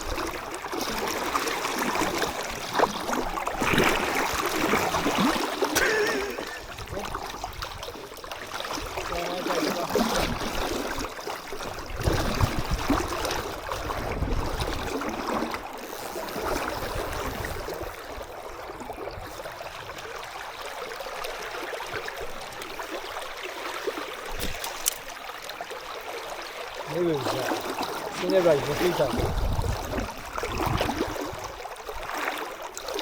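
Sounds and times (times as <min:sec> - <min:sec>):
river water flowing and gurgling: 0:00.0 - 0:33.0.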